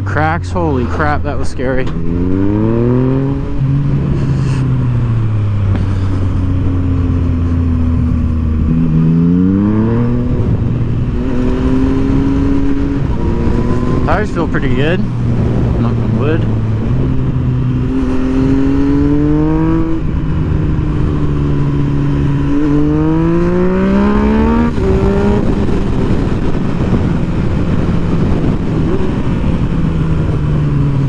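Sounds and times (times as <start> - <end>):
motorcycle engine accelerating: 0.0 - 31.0
wind noise on microphone: 1.9 - 31.0.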